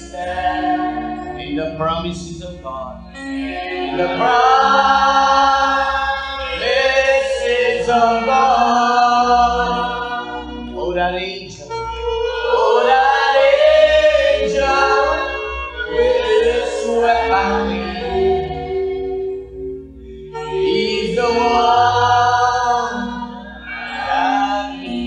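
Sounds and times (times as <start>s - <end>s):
person singing long held notes: 3.2s - 19.4s, 20.3s - 25.0s.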